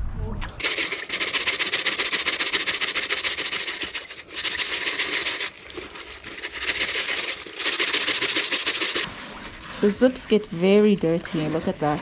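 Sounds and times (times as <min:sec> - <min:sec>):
brush scrubbing wet fabric: 0:00.6 - 0:12.0.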